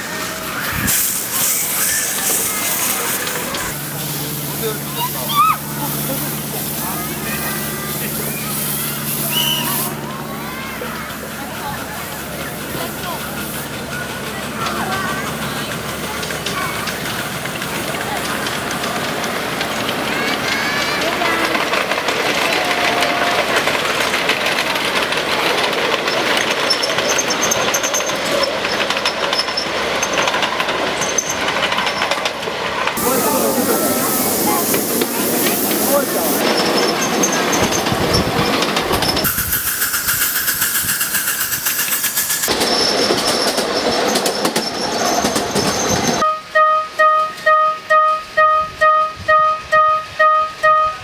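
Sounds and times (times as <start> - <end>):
wheels clicking over rails: 0.0 - 46.3
miniature train running on track: 0.0 - 51.0.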